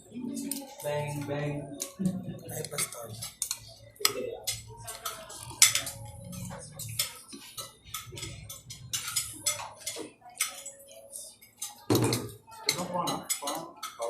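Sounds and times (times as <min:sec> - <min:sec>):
cutlery clinking on plates: 0:00.3 - 0:14.0.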